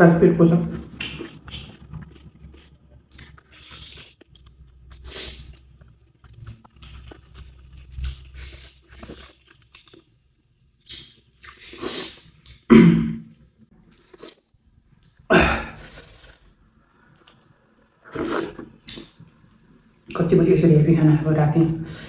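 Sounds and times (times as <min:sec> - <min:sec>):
person chewing and crunching food: 0:00.7 - 0:19.3.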